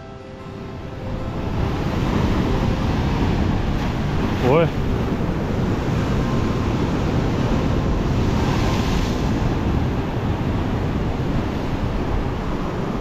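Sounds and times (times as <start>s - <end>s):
heavy waves breaking on shore: 0.0s - 13.0s
wind buffeting microphone: 0.0s - 13.0s.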